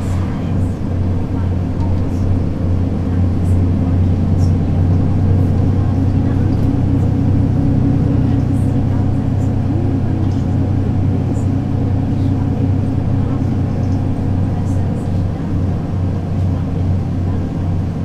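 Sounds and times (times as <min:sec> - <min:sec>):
bus diesel engine running: 0:00.0 - 0:18.0.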